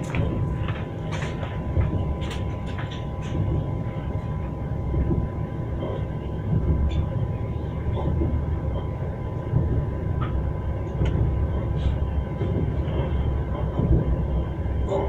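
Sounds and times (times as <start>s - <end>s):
low rumble of moving train: 0.0s - 15.0s.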